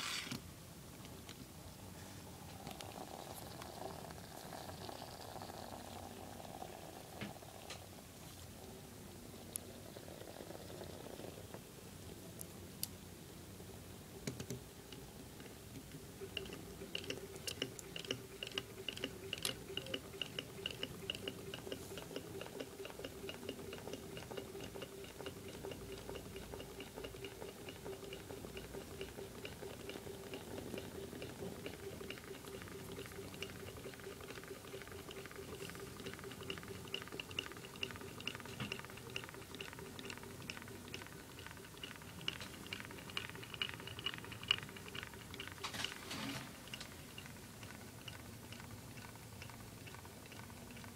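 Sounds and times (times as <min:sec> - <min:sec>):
faint steam bubbling: 0:01.8 - 0:12.3, 0:14.8 - 0:47.6.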